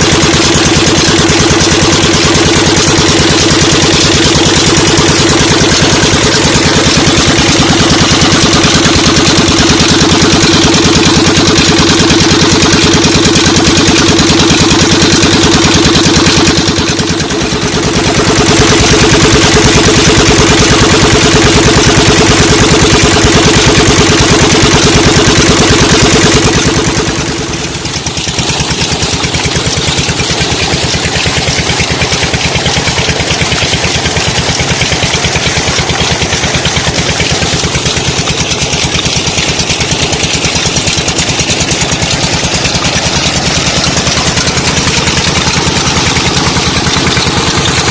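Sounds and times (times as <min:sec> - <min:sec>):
diesel engine running steadily: 0:00.0 - 0:47.9.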